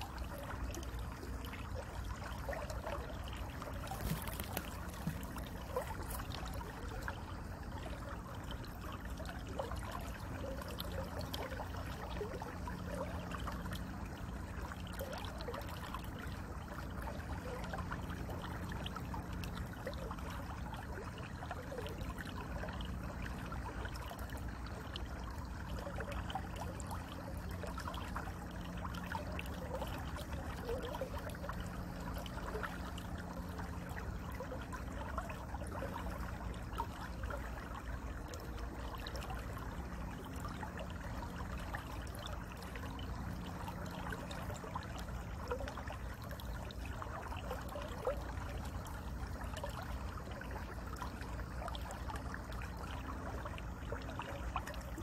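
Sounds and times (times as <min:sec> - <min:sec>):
low steady rumble: 0:00.0 - 0:55.0
water trickling and gurgling: 0:00.0 - 0:55.0.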